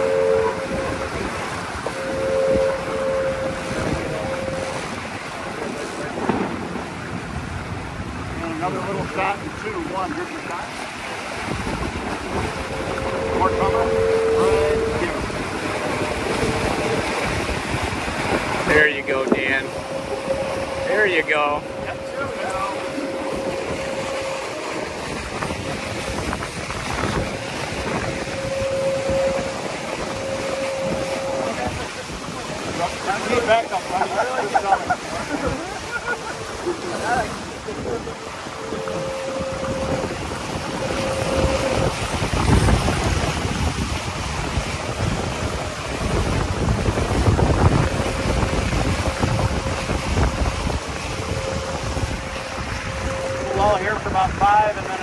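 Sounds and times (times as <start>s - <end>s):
steady humming tone: 0.0s - 8.3s, 11.3s - 55.0s
water rushing along boat hull: 0.0s - 55.0s
wind on microphone: 0.0s - 55.0s.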